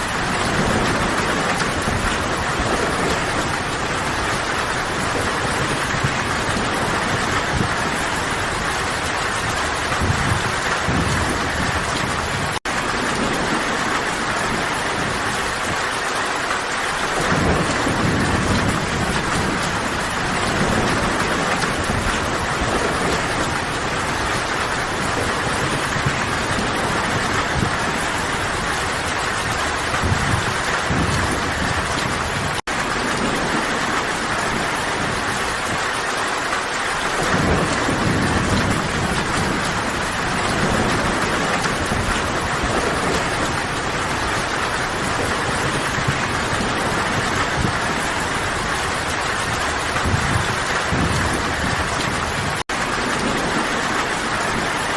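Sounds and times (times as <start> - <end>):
rain falling in a forest: 0.0 - 54.9.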